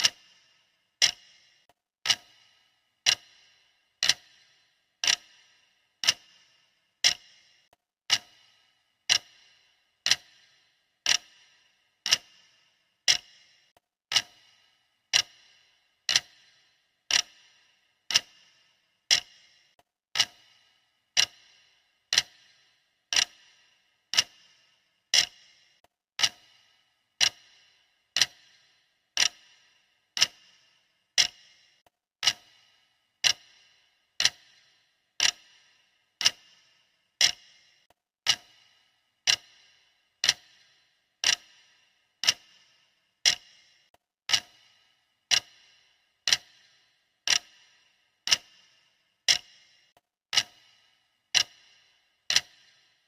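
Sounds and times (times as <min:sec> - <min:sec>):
timer ticking: 0:00.0 - 0:53.0.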